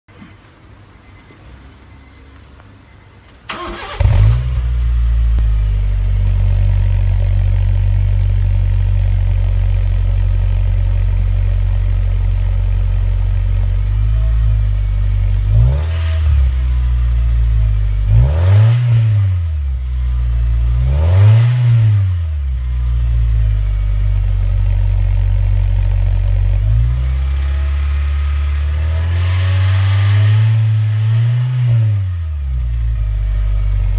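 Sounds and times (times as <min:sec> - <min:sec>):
engine throttle blips: 0:00.3 - 0:33.9
car engine starting and idling: 0:00.5 - 0:33.9.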